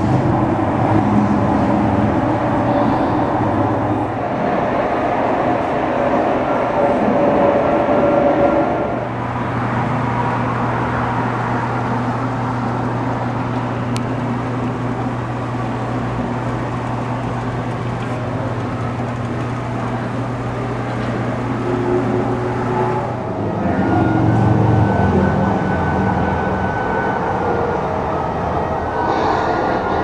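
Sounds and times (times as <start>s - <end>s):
train engine drone: 0.0s - 30.0s
faint whining tone: 6.0s - 30.0s.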